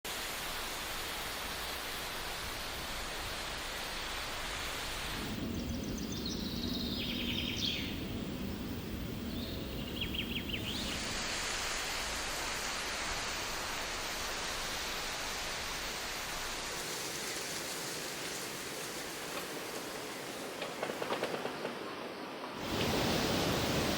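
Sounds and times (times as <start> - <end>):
foliage rustling hiss: 0.1 - 23.9.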